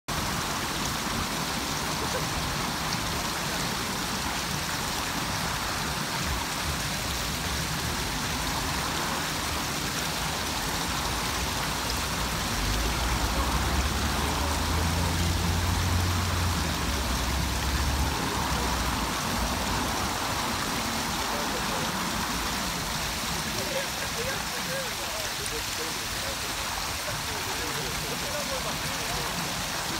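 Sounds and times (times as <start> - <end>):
fountain water splashing: 0.1 - 29.9.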